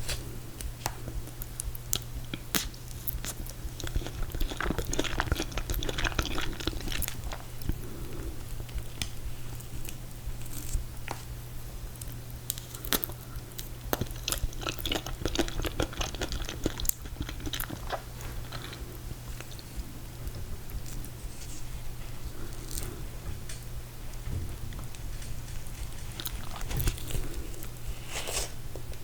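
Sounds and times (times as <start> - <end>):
low hum: 0.0 - 29.0
chewing with wet mouth clicks: 0.6 - 29.0.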